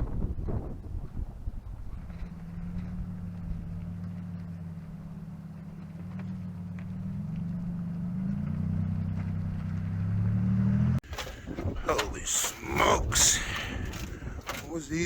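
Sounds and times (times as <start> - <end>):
vehicle engine humming: 0.4 - 15.0.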